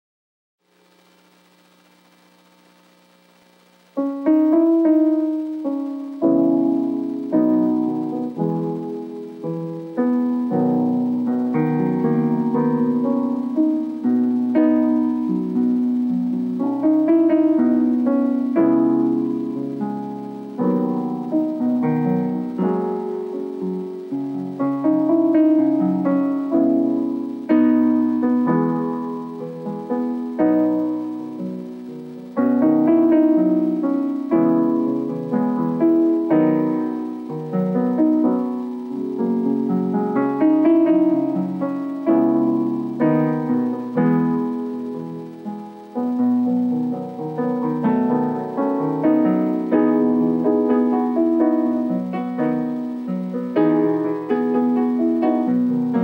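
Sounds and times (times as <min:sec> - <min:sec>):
faint low hum: 0:00.6 - 0:56.0
solo piano music: 0:03.4 - 0:56.0.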